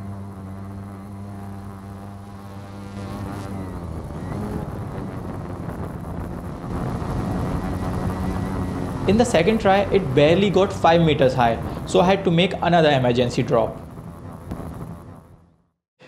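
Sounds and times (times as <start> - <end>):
wind on microphone: 0.0 - 14.8
drone propellers buzzing: 0.0 - 15.6.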